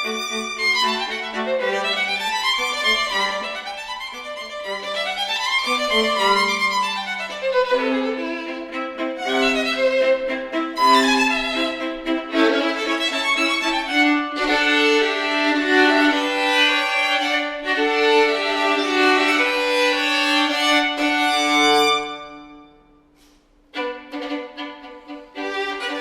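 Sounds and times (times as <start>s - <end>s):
violin and viola duo: 0.0s - 26.0s.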